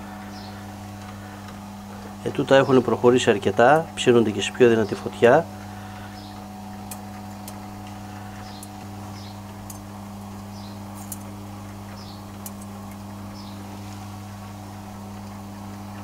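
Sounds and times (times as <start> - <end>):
rotisserie motor hum: 0.0 - 16.0.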